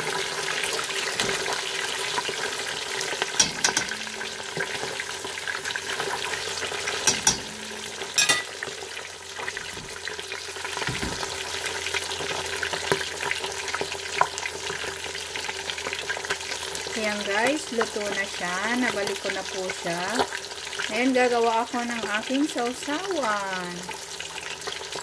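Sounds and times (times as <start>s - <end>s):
fish deep-frying in oil: 0.0s - 25.0s.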